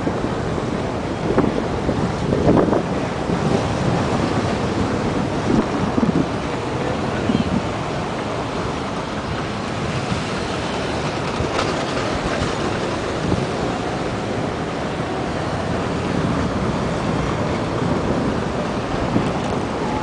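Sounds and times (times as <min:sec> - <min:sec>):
street traffic: 0:00.0 - 0:20.0
surf: 0:00.0 - 0:20.0
wind on microphone: 0:00.0 - 0:20.0.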